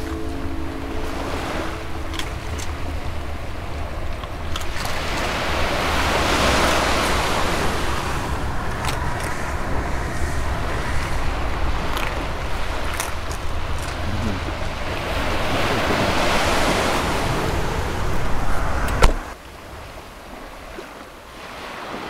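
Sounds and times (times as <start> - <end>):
surf washing onto beach: 0.0 - 22.0
wind rumble on microphone: 0.0 - 22.0.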